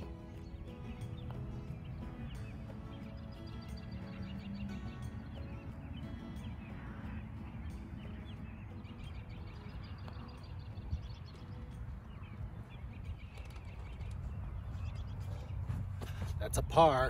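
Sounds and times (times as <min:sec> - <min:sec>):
wind rumbling on microphone: 0:00.0 - 0:16.7
birds chirping: 0:00.0 - 0:17.0.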